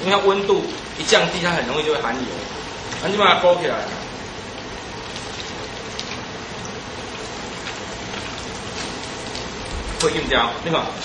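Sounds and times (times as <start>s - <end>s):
deep-frying sizzle with crackles: 0.0s - 11.0s.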